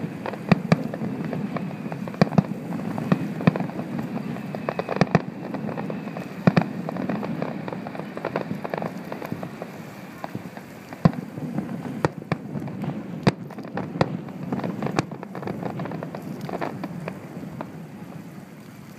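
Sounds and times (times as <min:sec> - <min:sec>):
fireworks bangs: 0:00.0 - 0:18.4
fireworks crackling: 0:00.0 - 0:18.9.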